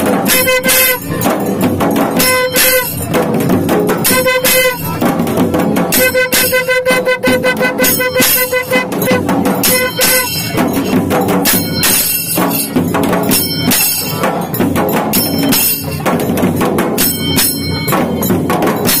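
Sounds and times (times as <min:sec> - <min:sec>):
percussive music strikes: 0:00.0 - 0:19.0.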